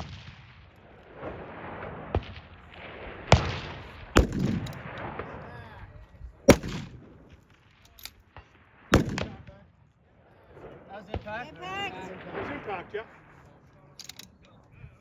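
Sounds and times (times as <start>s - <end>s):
rifle shots with rolling echo: 0.0s - 14.4s.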